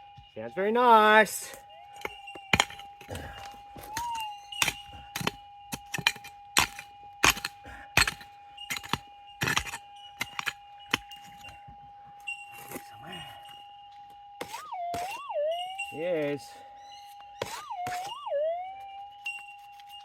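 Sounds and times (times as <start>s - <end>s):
metal detector electronic tone: 0.0s - 20.0s
digging in stony ground: 0.8s - 20.0s.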